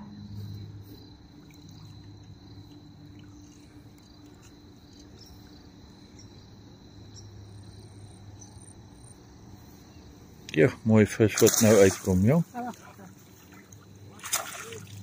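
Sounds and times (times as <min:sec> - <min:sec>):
high-pitched insect trill: 0:00.0 - 0:15.0
low steady hum: 0:00.0 - 0:15.0.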